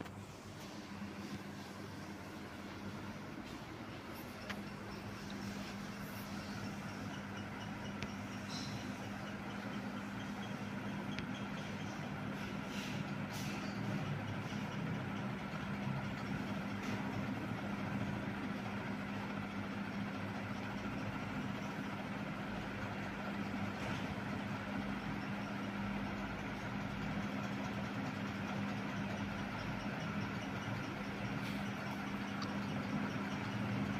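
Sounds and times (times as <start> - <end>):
ceiling fan motor hum: 0.0 - 33.9.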